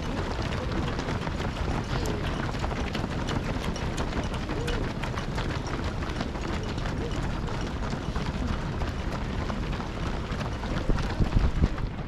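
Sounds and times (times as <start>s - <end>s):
runners' footsteps on road: 0.0s - 12.0s
voices in background: 0.0s - 12.0s.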